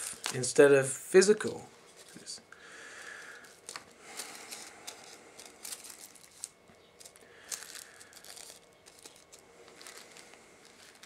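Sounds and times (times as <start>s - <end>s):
crinkling and rustling handling noise: 0.0s - 2.4s, 3.0s - 11.0s.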